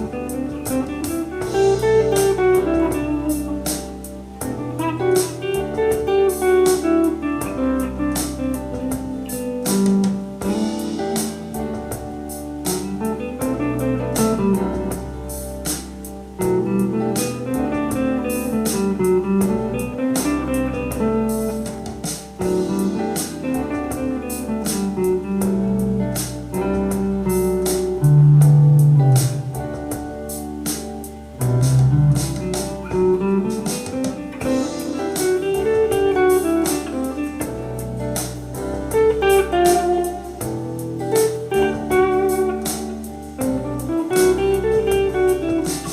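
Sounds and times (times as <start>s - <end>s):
backing track drums and bass: 0.0s - 45.9s.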